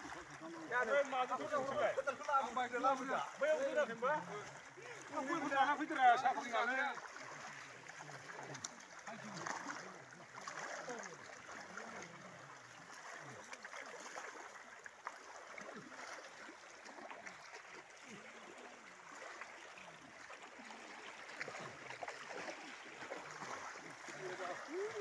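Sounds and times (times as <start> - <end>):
people wading through water: 0.0 - 25.0.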